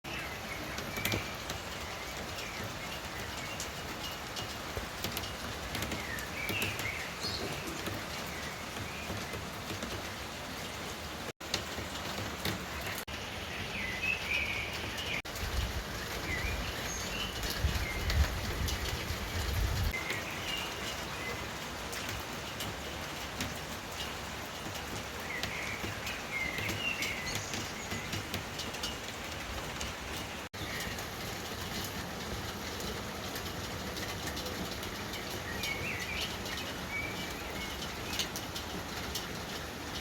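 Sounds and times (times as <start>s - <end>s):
steady rain falling: 0.0s - 40.0s
birds chirping: 0.1s - 11.2s, 11.8s - 22.6s, 23.2s - 31.8s, 33.9s - 40.0s.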